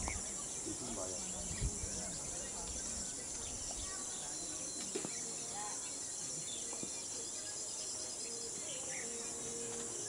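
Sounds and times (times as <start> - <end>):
faint bird chirps: 0.0 - 10.0
insects droning: 0.0 - 10.0.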